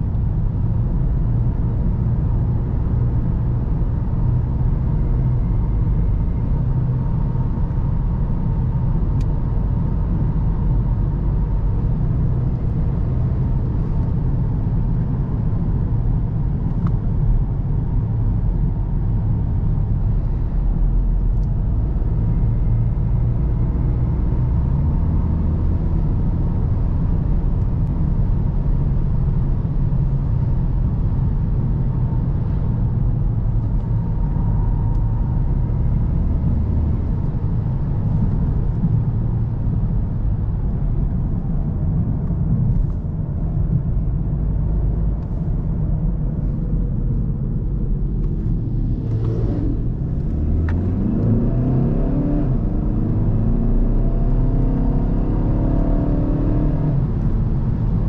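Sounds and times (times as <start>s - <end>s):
diesel engine rumble: 0.0s - 58.0s
road noise: 0.0s - 58.0s.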